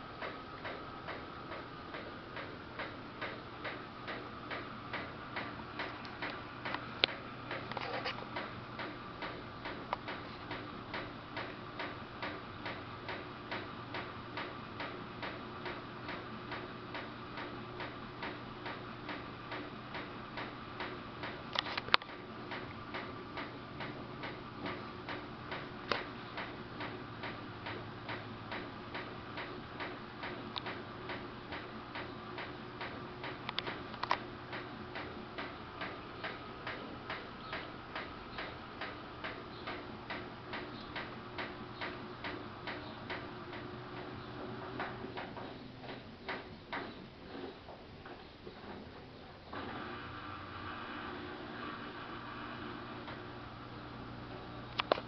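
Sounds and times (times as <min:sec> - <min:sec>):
washing machine running: 0:00.0 - 0:46.8, 0:48.8 - 0:55.0.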